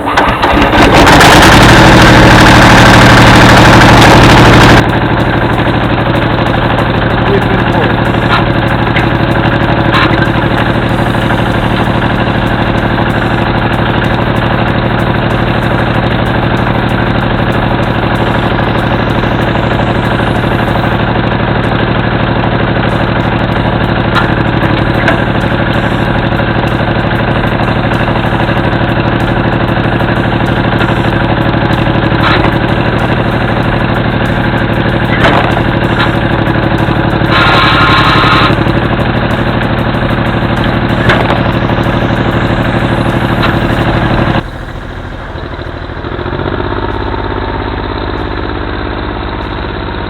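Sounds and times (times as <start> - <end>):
tractor diesel engine idling: 0.0 - 50.0.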